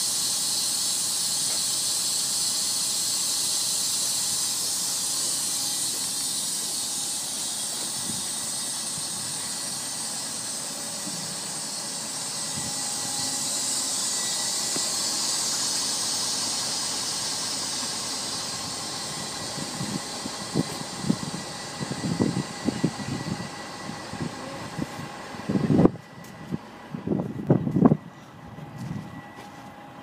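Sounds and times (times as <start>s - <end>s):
compressed air hissing: 0.0s - 25.1s.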